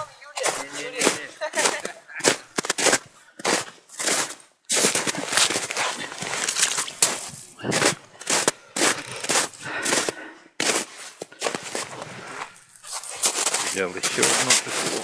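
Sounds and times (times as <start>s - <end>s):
boots crunching through snow: 0.4s - 15.0s.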